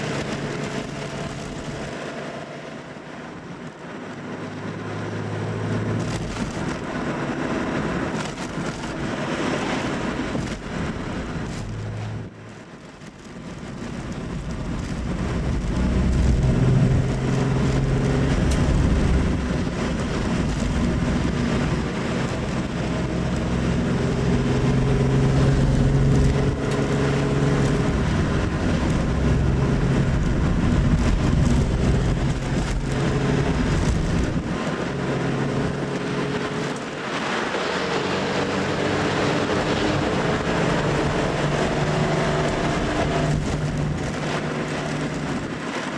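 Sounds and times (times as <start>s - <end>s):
car engine and exhaust: 0.0s - 45.9s.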